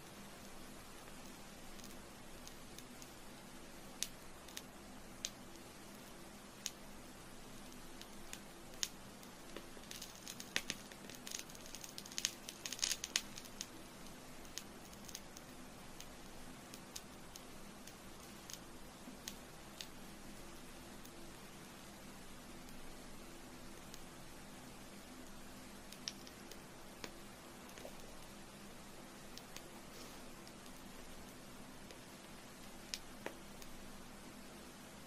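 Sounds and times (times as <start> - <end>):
candle crackling and popping: 0.0 - 35.0
steady low hiss: 0.0 - 35.0.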